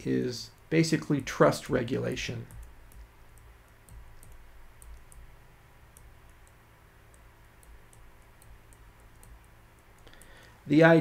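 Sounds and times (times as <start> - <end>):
low room hum: 0.0 - 11.0
stylus tapping clicks: 0.5 - 10.5.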